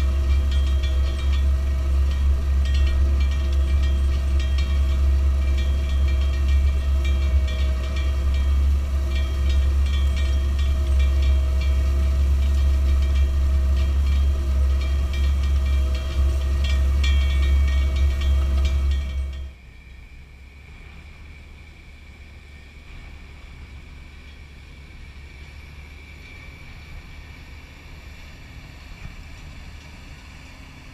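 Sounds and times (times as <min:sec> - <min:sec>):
tractor diesel engine droning: 0:00.0 - 0:30.9.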